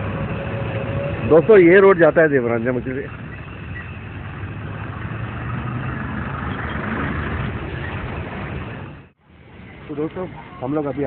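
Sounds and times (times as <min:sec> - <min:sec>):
truck engine driving past: 0:00.0 - 0:09.8.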